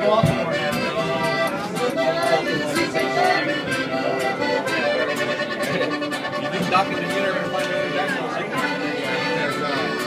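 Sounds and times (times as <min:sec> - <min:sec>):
mariachi band playing: 0:00.0 - 0:10.0.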